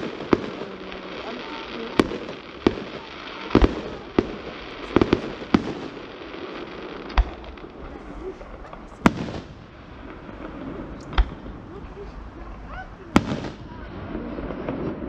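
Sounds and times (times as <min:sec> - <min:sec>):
fireworks bursting bangs: 0:00.0 - 0:15.0.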